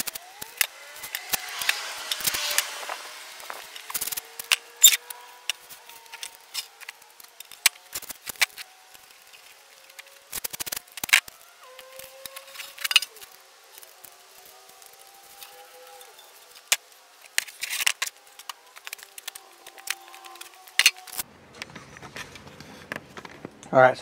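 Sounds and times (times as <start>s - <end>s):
masking tape ripping: 0.0s - 21.2s
tape rolls set on plastic table: 0.0s - 23.7s.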